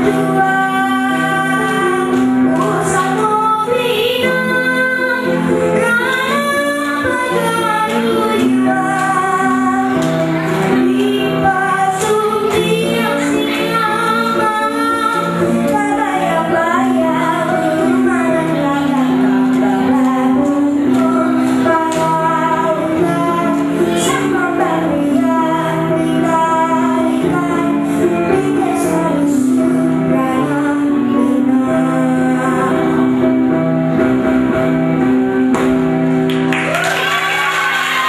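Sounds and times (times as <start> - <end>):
girl singing into a microphone: 0.0 - 33.4.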